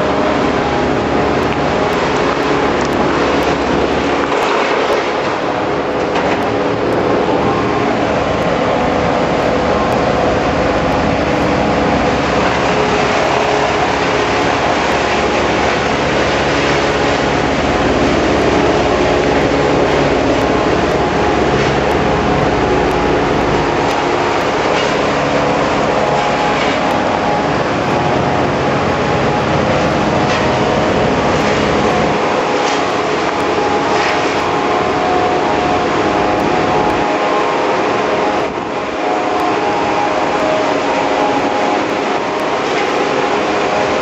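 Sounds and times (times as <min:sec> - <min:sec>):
heavy machinery engines running: 0:00.0 - 0:44.0.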